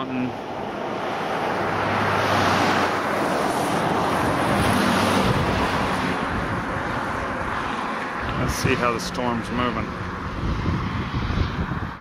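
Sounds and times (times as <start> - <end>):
wind blowing over microphone: 0.0 - 12.0.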